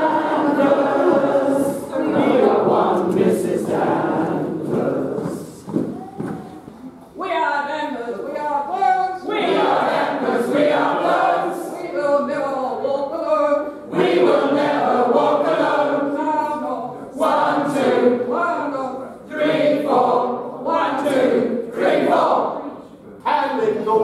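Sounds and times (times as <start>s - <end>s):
group singing a cappella: 0.0s - 5.7s, 9.2s - 22.9s.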